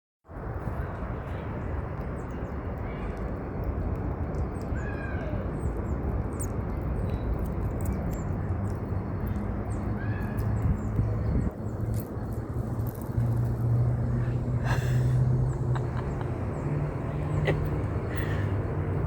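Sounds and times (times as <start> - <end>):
rushing background noise: 0.3 - 19.0.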